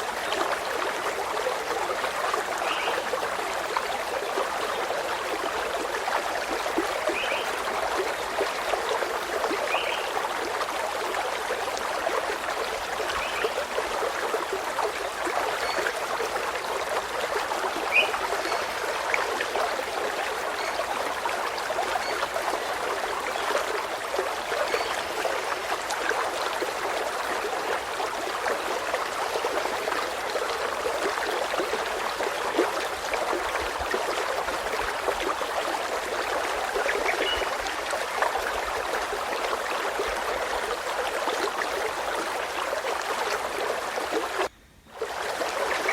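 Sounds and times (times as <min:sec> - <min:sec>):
stream water trickling: 0:00.0 - 0:45.9.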